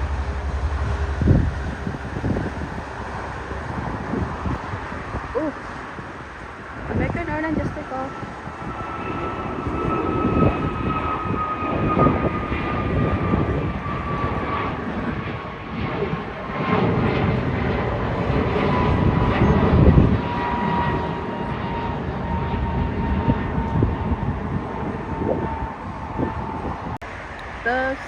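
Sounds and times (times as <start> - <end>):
jet engine roar: 0.0 - 28.0
wind buffeting microphone: 0.0 - 28.0.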